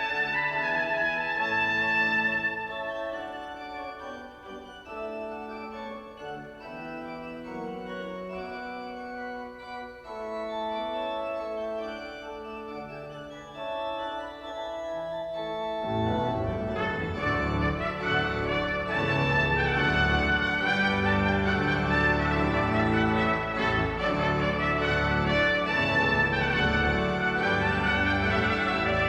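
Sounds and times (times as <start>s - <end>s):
pipe organ playing chords: 0.0s - 29.0s.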